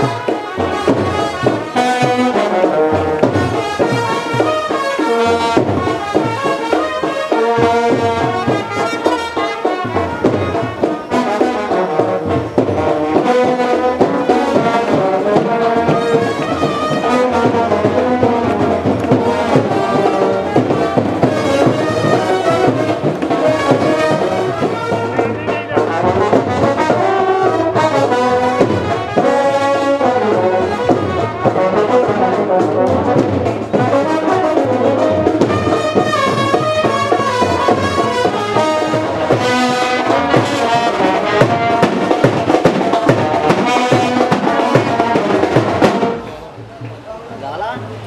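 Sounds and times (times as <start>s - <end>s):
brass instruments playing melody: 0.0s - 46.8s.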